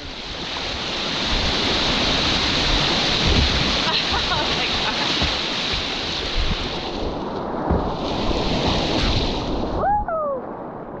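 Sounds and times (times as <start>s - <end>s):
rushing water: 0.0s - 11.0s
wind buffeting microphone: 0.0s - 11.0s.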